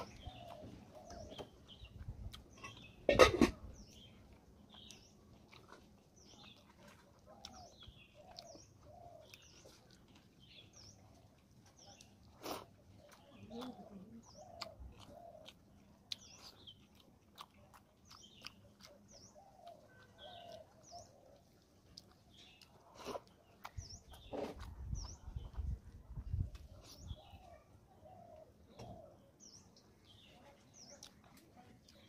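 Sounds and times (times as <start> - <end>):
fingers mixing food clicks: 0.0 - 27.6, 30.2 - 32.0
faint birds calling: 0.0 - 32.0.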